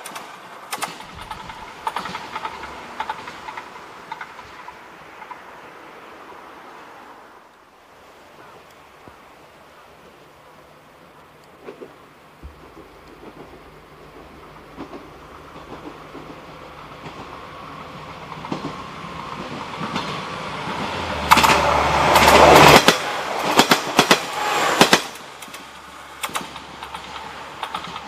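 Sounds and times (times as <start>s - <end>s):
train passing: 0.0s - 28.0s
wheels clicking over rail joints: 0.0s - 28.0s.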